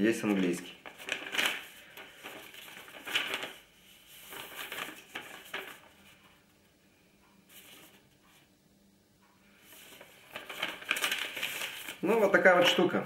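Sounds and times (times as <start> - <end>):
paper rustling: 0.0 - 6.4, 7.5 - 8.4, 9.6 - 12.9.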